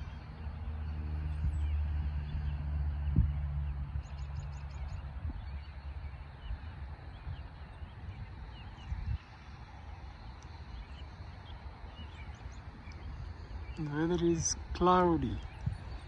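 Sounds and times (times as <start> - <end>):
low rumble: 0.0 - 13.8
birds chirping: 0.0 - 16.0.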